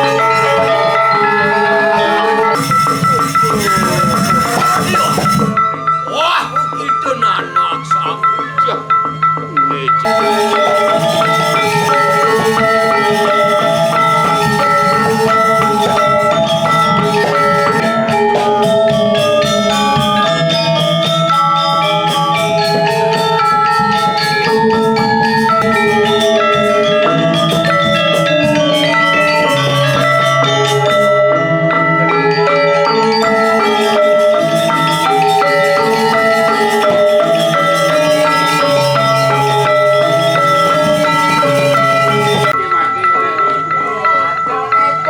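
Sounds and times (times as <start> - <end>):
drums: 0.0 - 42.8
struck metal mallet notes: 0.0 - 44.8.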